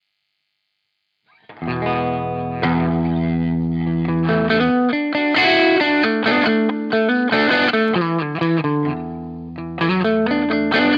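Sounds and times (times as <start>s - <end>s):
fuzzed electric guitar: 1.3s - 10.9s.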